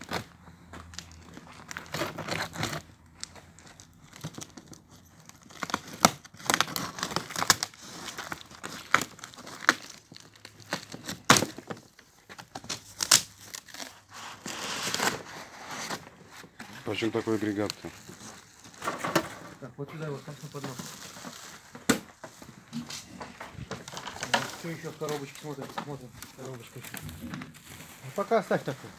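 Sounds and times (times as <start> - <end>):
plastic wrapping crinkling and tearing: 0.0 - 28.9.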